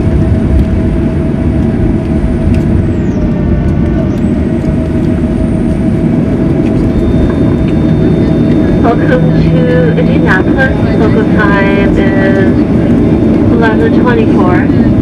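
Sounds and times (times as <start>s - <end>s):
jet engines rumbling in cabin: 0.0s - 15.0s
steady hum: 0.0s - 15.0s.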